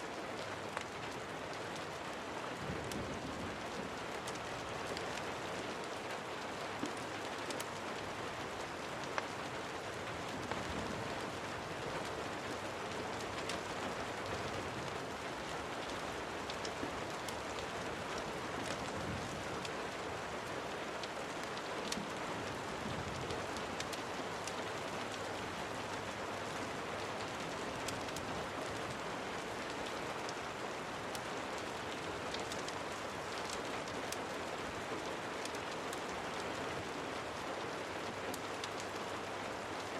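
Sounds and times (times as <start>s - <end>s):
rain drops ticking: 0.0s - 39.9s
steady rain hiss: 0.0s - 39.9s.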